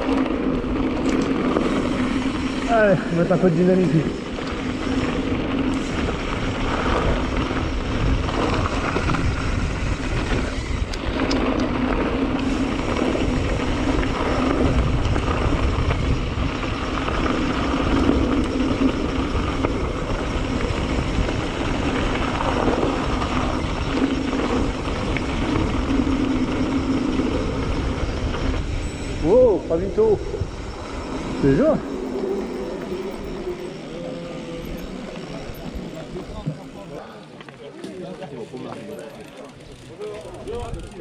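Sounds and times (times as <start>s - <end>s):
wind rushing over microphone: 0.0s - 33.9s
knobby tyres humming on trail: 0.0s - 41.0s.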